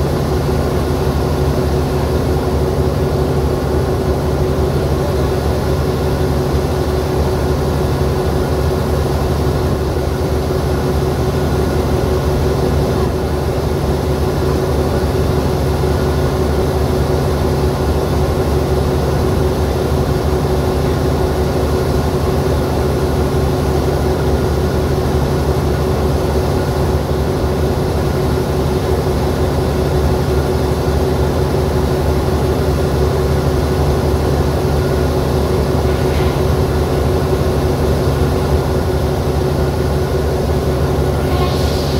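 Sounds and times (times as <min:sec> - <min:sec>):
locomotive engine idling: 0:00.0 - 0:41.9.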